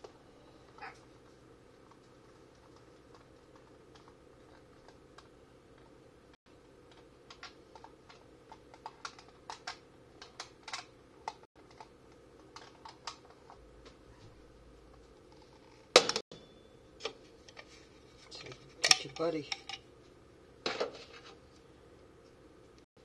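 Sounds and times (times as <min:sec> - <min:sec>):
low room hum: 0:00.0 - 0:22.9.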